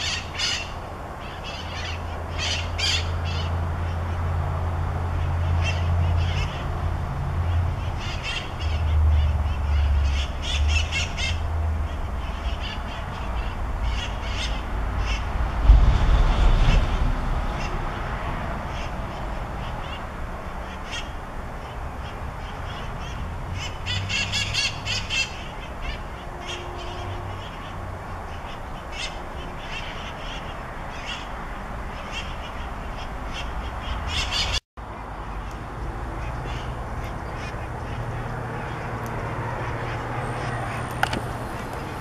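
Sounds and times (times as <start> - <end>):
parakeets screeching: 0.0 - 4.4, 5.1 - 15.3, 18.7 - 34.6, 36.1 - 42.0.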